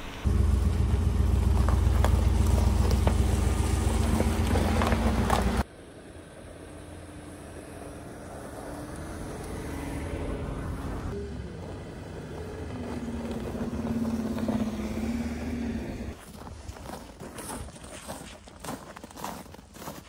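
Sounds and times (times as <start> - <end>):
truck engine running: 0.0 - 16.2
truck driving: 0.0 - 17.8.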